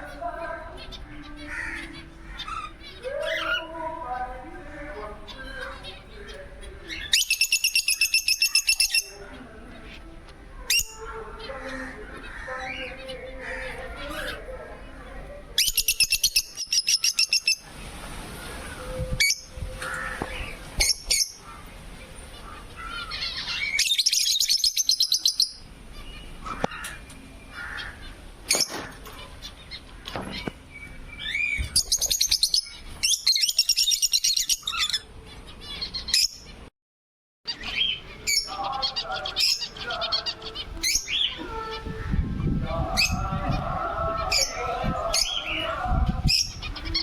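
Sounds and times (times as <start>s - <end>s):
birds chirping and squawking: 0.0s - 36.7s, 37.5s - 47.0s.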